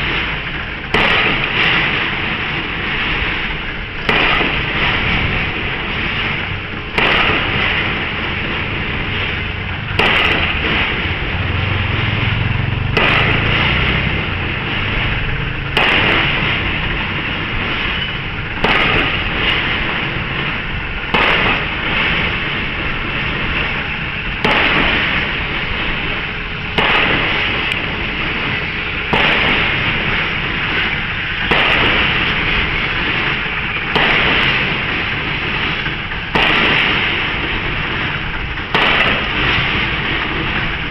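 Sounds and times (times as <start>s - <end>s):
construction site noise: 0.0s - 40.9s
pile driver heavy impacts: 3.4s - 22.7s, 23.5s - 40.9s.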